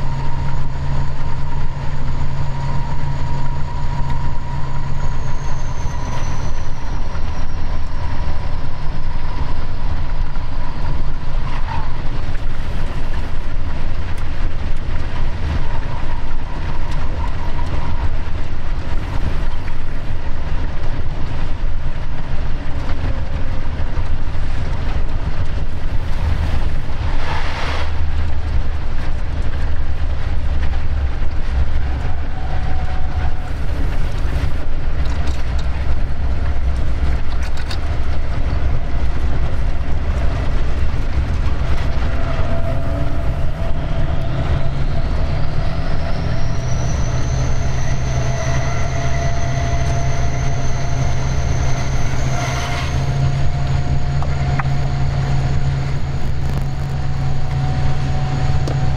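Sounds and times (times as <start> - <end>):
locomotive running rumble: 0.0 - 58.9.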